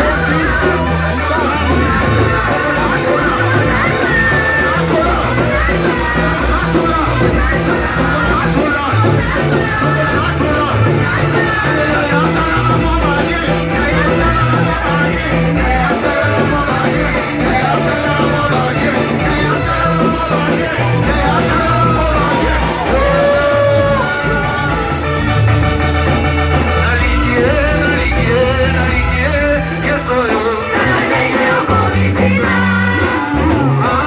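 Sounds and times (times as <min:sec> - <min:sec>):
people singing: 0:00.0 - 0:34.0
worship band playing upbeat music: 0:00.0 - 0:34.0.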